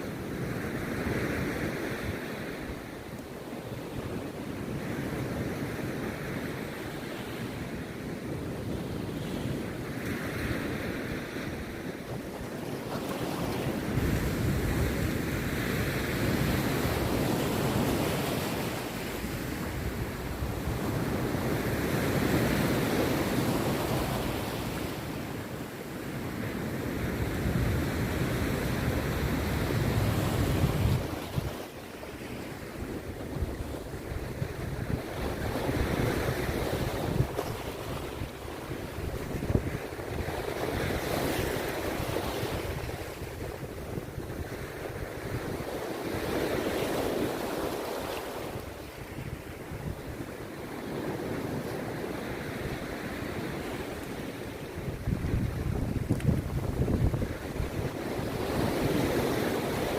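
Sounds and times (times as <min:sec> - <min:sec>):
sea surf breaking on beach: 0:00.0 - 0:59.9
wind rumbling on microphone: 0:00.0 - 0:59.9.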